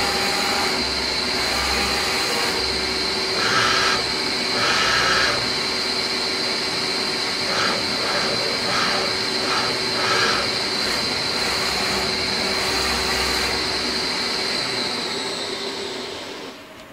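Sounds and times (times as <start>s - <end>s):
lathe high whine: 0.0s - 16.9s.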